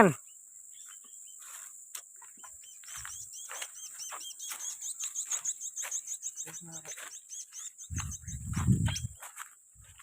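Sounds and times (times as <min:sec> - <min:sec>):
high bird chirps: 0:00.0 - 0:09.5
high insect drone: 0:00.0 - 0:10.0.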